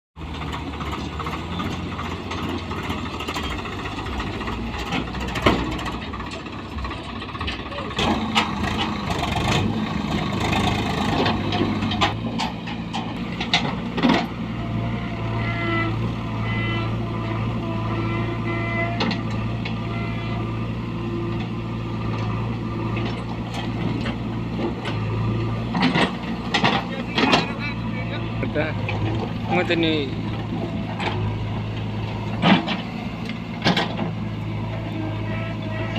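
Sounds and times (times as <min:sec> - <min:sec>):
diesel engine running: 0:00.2 - 0:35.9.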